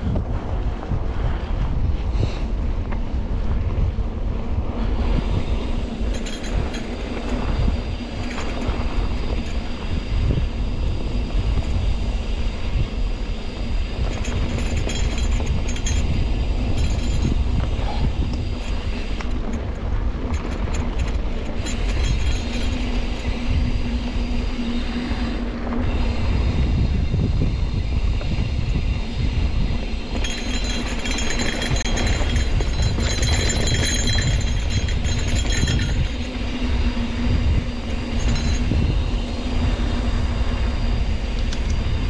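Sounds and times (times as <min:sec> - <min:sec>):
bike rattling over dirt trail: 0:00.0 - 0:42.0
steady low hum: 0:00.0 - 0:42.0
wind buffeting microphone: 0:00.0 - 0:42.0.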